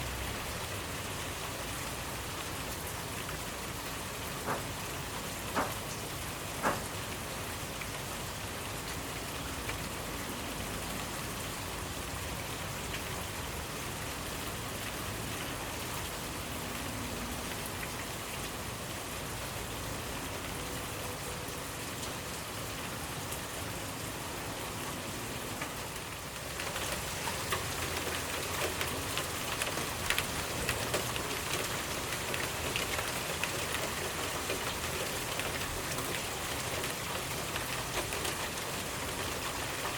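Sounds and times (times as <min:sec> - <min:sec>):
raindrops ticking on surface: 0:00.0 - 0:39.9
steady rain falling: 0:00.0 - 0:39.9.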